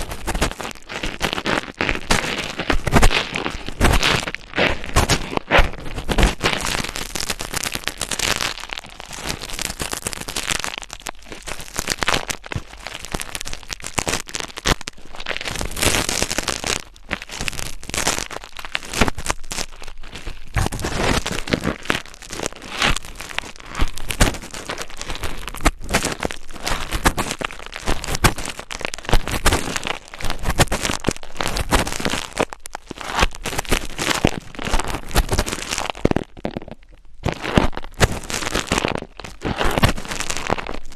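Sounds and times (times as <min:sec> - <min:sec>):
close crackling and scratching: 0:00.0 - 0:40.9.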